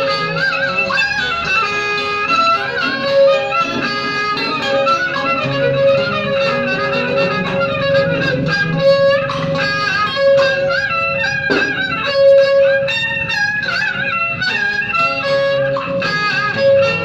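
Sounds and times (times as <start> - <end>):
bowed fiddle melody: 0.0 - 17.0
plucked strings: 0.0 - 17.0.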